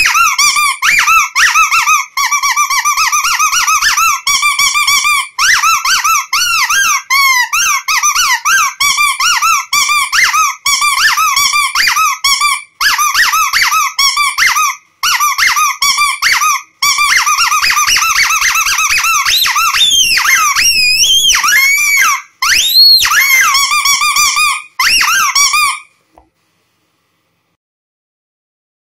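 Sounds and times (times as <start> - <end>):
rubber duck squeaking: 0.0 - 25.9.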